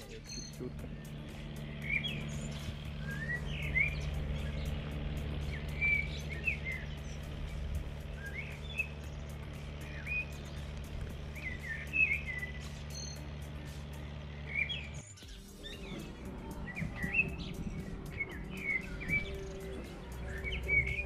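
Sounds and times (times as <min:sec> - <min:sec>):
songbirds chirping: 0:00.0 - 0:21.0
steady low rumble: 0:00.0 - 0:21.0.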